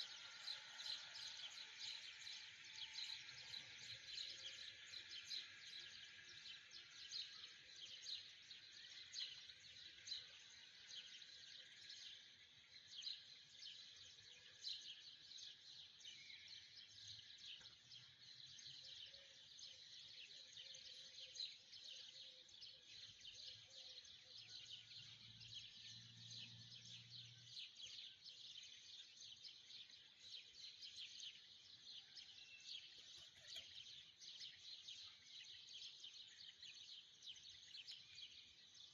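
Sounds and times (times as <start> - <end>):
many small birds chirping: 0.0 - 38.9.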